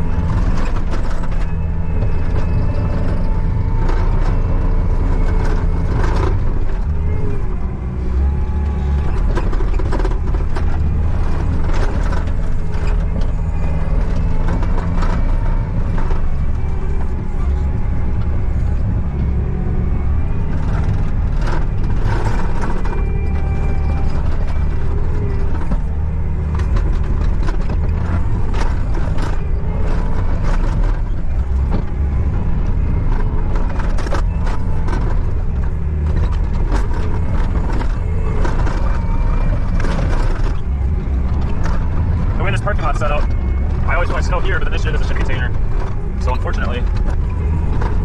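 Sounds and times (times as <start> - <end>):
loader engine running: 0.0 - 48.0
machine clanks and rattles: 0.0 - 48.0.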